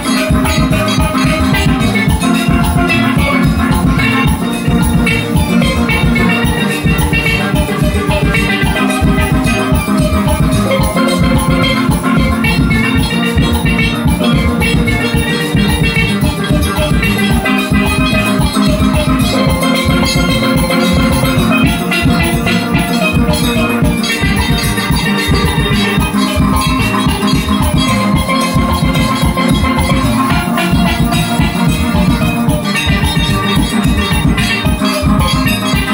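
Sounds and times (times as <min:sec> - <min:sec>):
steady drum beat: 0:00.0 - 0:35.9
steel pan ensemble playing: 0:00.0 - 0:35.9.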